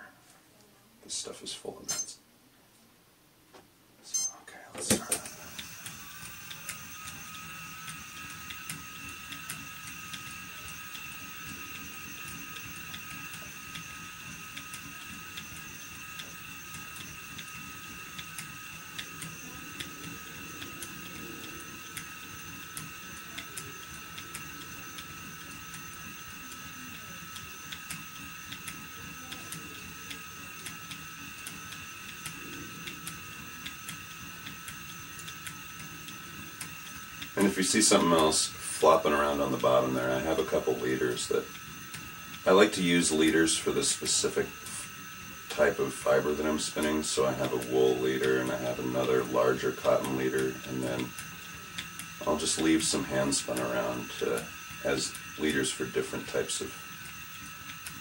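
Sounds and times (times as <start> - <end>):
spinning wheel motor whine: 4.0 - 58.0.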